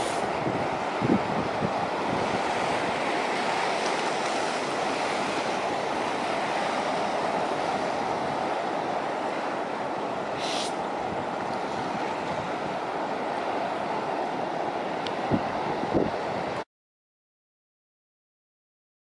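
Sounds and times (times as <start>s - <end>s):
surf washing on shore: 0.0s - 16.6s.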